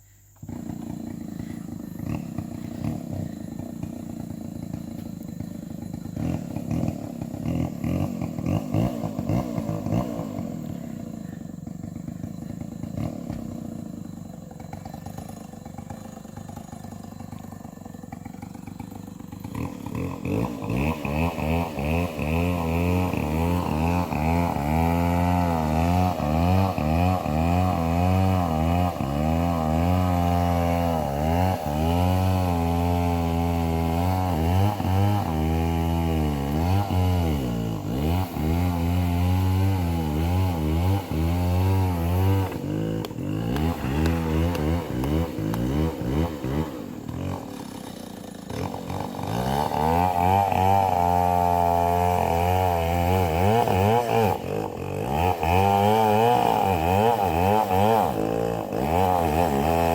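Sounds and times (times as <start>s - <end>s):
chainsaw cutting timber: 0.0s - 59.9s
chainsaw idling: 0.0s - 59.9s.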